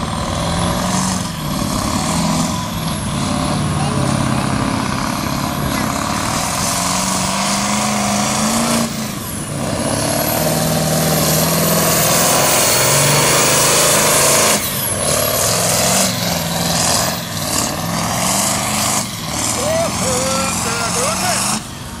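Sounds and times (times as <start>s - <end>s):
tractor engine under heavy load: 0.0s - 22.0s.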